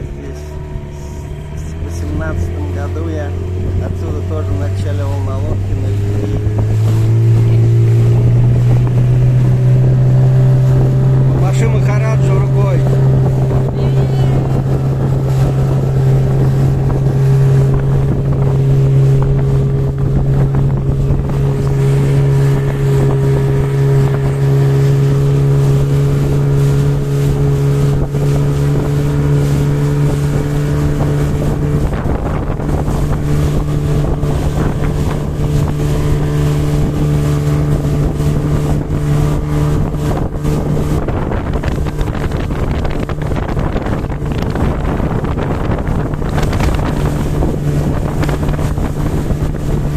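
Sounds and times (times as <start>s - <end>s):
motorboat engine droning: 0.0s - 49.9s
wind buffeting microphone: 0.0s - 49.9s.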